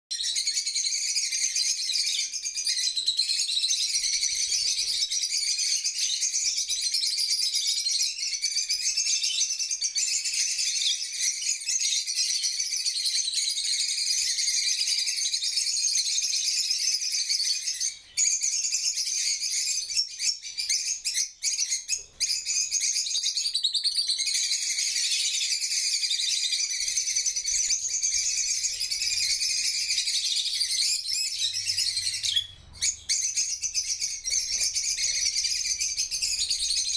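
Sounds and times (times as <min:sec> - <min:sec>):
flock of lovebirds chirping: 0:00.1 - 0:36.9.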